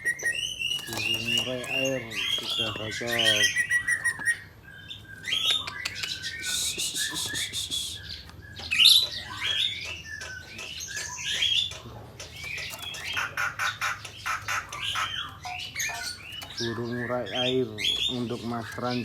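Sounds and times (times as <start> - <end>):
bird singing chirps and whistles: 0.0 - 11.8, 14.2 - 19.0.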